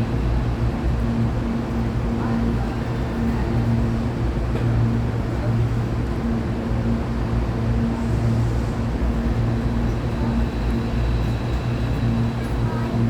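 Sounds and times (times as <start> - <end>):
train electrical equipment humming: 0.0 - 13.0.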